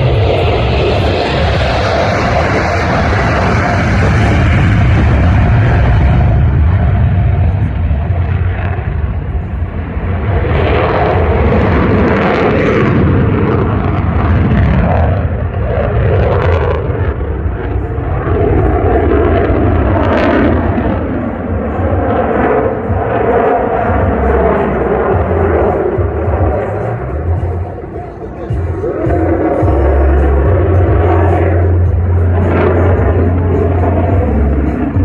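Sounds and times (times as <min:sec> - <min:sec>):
aircraft engine rumble: 0:00.0 - 0:35.0.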